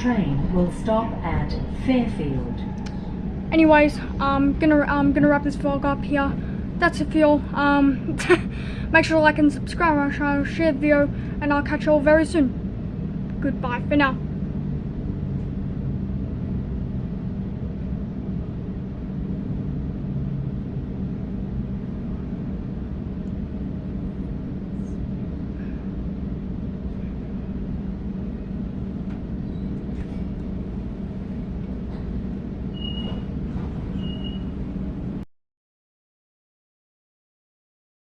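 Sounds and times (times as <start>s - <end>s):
train carriage rumble: 0.0s - 35.2s
low hum: 0.0s - 35.3s.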